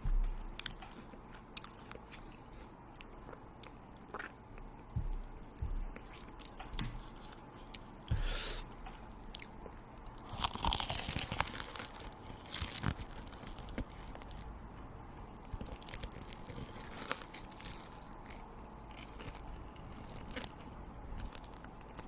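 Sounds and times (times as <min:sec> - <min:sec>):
crunchy food being chewed: 0:00.0 - 0:08.4, 0:09.2 - 0:22.0.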